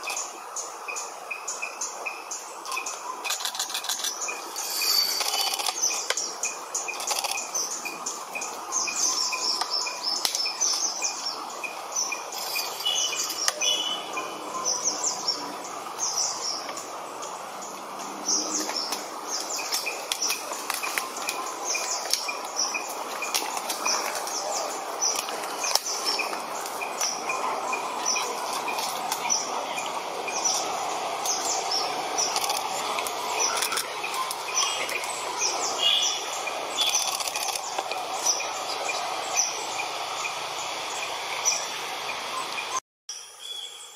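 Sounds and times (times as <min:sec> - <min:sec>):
birds chirping: 0:00.0 - 0:43.9
forest background noise: 0:00.0 - 0:43.9.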